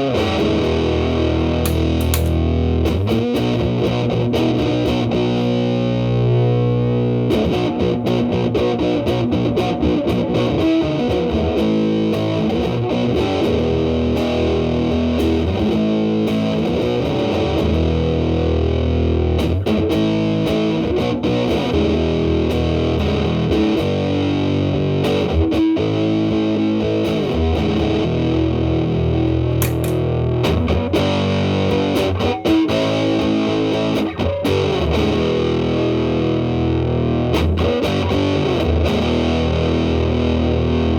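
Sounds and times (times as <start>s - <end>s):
fuzzed electric guitar chords: 0.0s - 40.9s.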